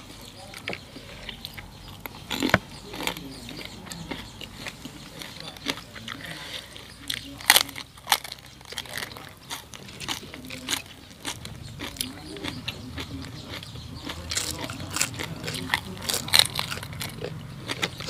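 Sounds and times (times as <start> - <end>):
people chewing crisp food: 0.0 - 18.0.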